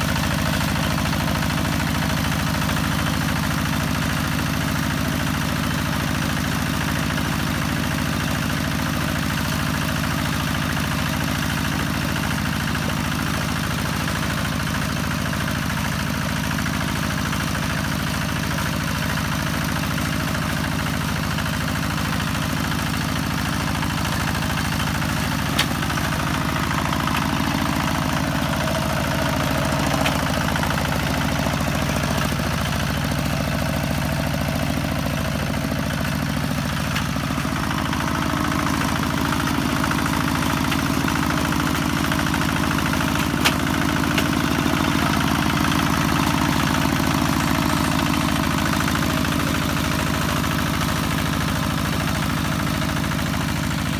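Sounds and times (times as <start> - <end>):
diesel engine running steadily: 0.0 - 53.9.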